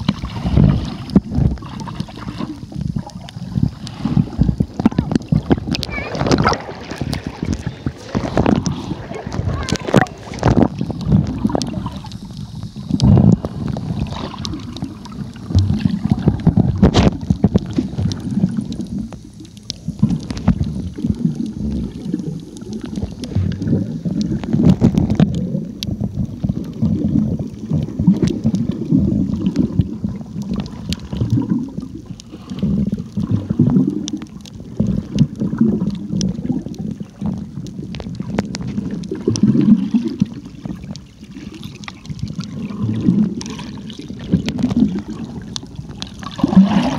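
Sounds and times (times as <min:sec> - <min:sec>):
muffled underwater churning rumble: 0:00.0 - 0:46.9.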